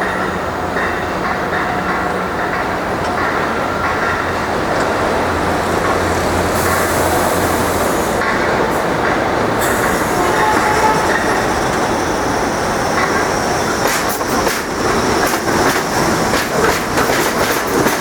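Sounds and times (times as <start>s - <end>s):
subway train rail rumble: 0.0s - 18.0s.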